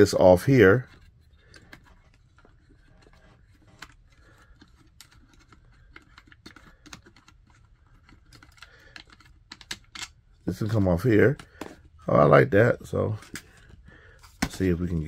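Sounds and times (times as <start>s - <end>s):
plastic parts clicking and rubbing: 0.0s - 15.0s.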